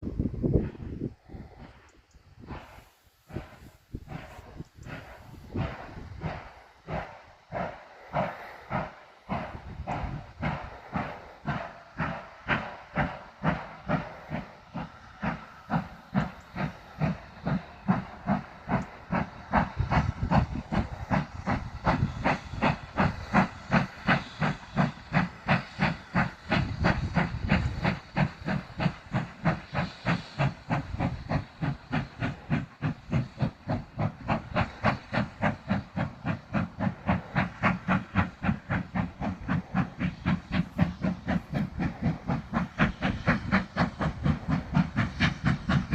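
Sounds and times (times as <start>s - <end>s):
steam locomotive exhaust chuffing: 0.0s - 45.9s.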